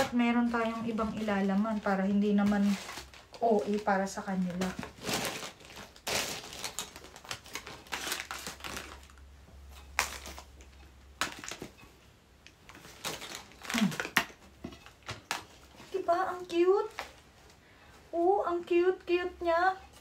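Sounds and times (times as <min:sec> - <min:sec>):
candy wrappers crinkling: 0:00.0 - 0:11.9, 0:12.6 - 0:17.6.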